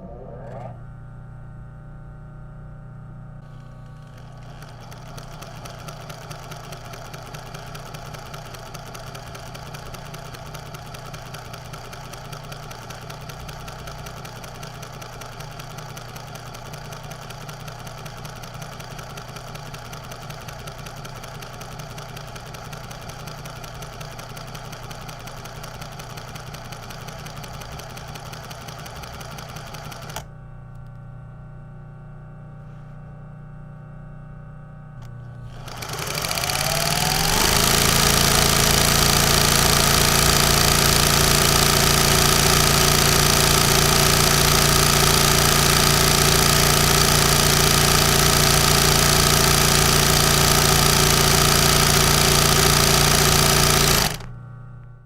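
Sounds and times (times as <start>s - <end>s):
sewing machine running: 3.4s - 30.3s, 35.4s - 54.3s.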